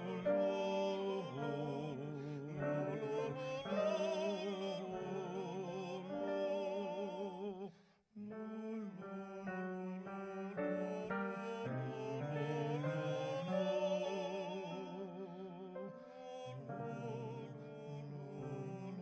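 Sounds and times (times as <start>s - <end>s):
two men singing a liturgical duet: 0.0s - 19.0s.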